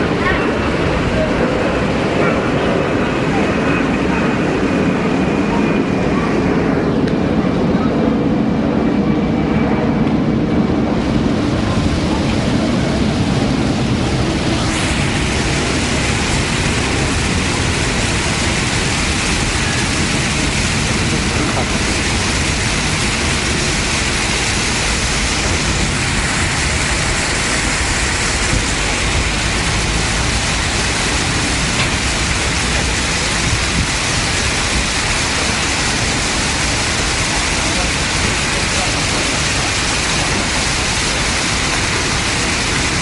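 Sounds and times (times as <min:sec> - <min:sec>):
fountain water jets hissing: 0:00.0 - 0:07.7, 0:10.7 - 0:43.0.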